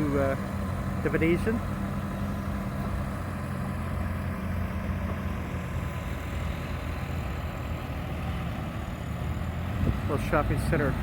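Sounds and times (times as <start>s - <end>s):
traffic noise: 0.0s - 11.0s
vehicle engine humming: 0.0s - 11.0s.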